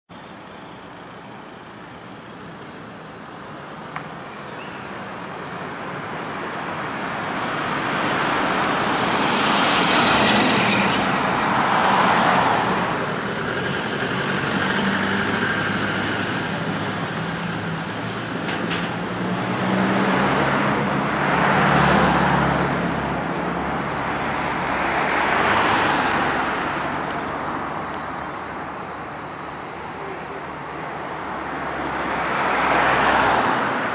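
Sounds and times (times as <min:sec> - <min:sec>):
road traffic passing: 0:00.1 - 0:33.9.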